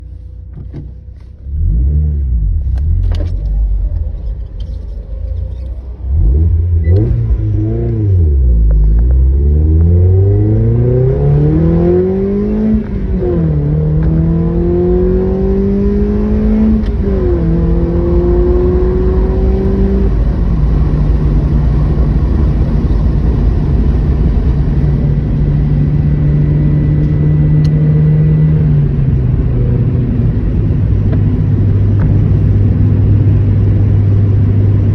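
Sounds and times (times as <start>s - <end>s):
car engine accelerating: 0.5s - 34.9s.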